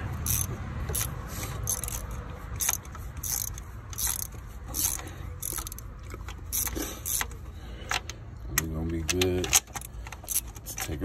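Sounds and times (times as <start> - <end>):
socket ratchet clicking: 0.2 - 11.0.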